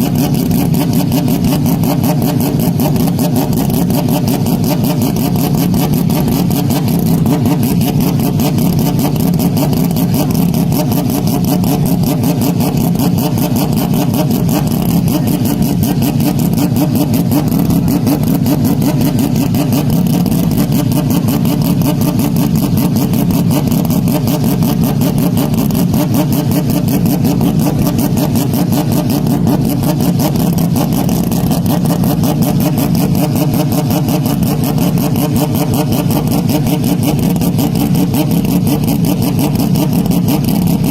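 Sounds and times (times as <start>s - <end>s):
distorted racing engine roar: 0.0s - 40.9s.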